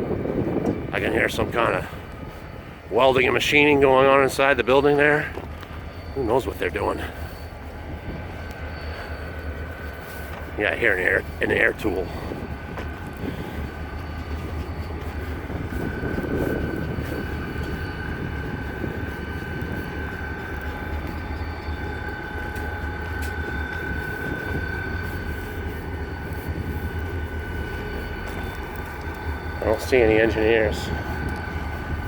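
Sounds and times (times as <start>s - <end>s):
diesel locomotive engine rumble: 0.0s - 32.0s
steady high whine: 0.0s - 32.0s.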